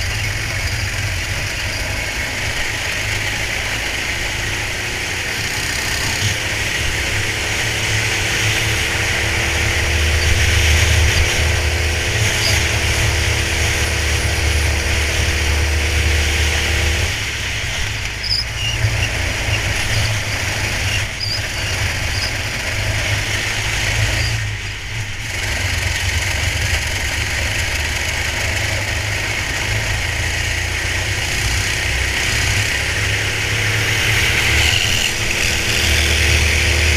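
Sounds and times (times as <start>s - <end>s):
go-kart engine running at speed: 0.0s - 36.9s.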